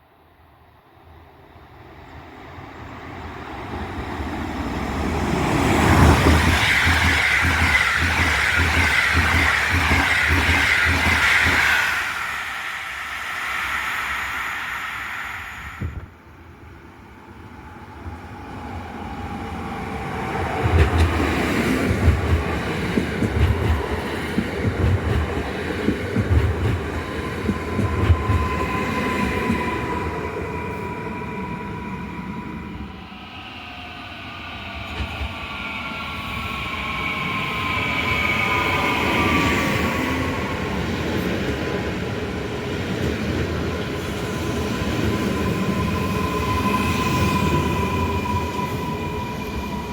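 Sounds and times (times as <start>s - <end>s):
fast train passing: 0.0s - 49.9s.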